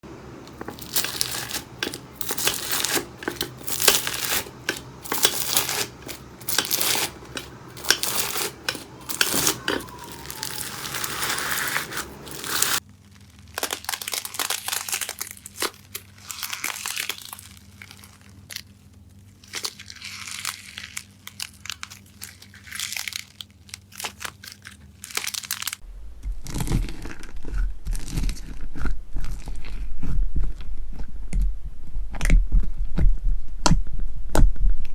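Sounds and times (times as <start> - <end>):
steady low hum: 0.0 - 21.0, 25.8 - 34.8
slime crackling and popping: 0.4 - 30.1.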